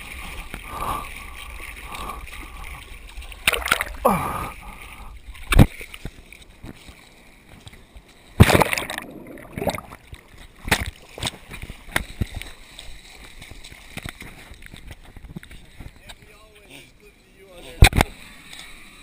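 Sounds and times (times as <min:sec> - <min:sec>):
muffled water sloshing: 0:00.0 - 0:16.3.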